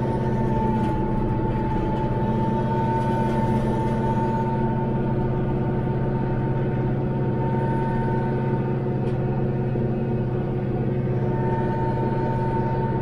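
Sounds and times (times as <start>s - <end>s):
high whine: 0.0s - 13.0s
tractor diesel engine drone: 0.0s - 13.0s.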